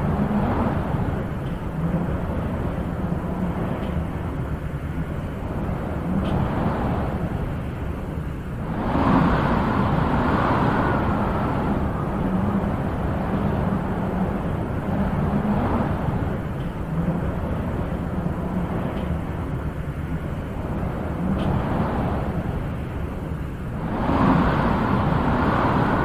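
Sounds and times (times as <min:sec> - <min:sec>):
wind blowing in gusts: 0:00.0 - 0:26.0.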